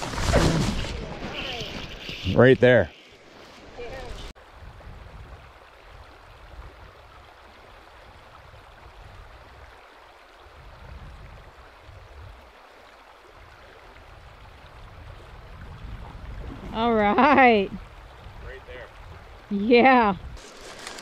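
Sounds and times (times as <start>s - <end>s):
stream water running: 0.0s - 21.0s.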